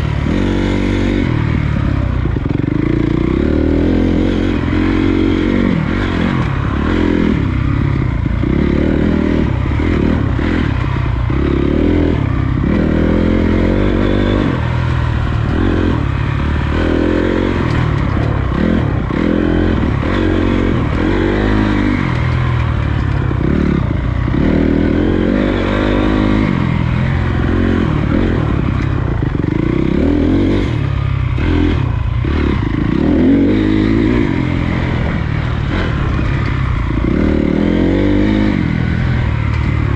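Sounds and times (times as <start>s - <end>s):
dirt bike engine revving: 0.0s - 39.9s
wind noise: 0.0s - 39.9s.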